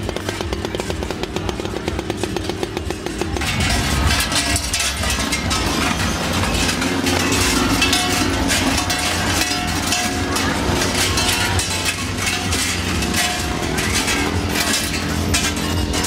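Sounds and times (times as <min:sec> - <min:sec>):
large cowbells clanging: 0:00.0 - 0:16.0.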